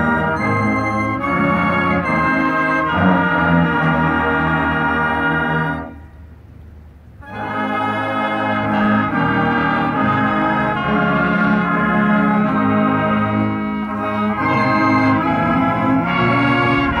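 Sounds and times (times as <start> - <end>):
marching band playing slow chords: 0.0 - 17.0.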